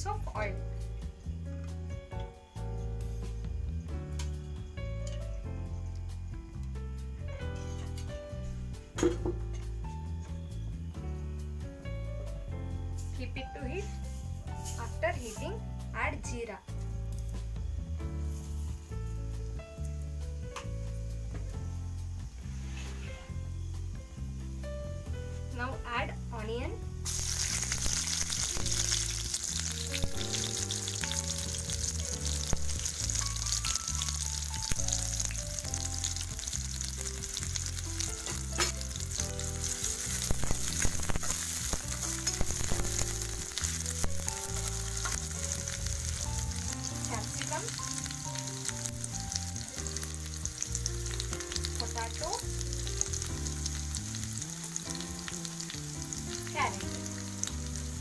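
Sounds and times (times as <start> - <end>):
onions sizzling in hot oil: 7.4 - 58.0.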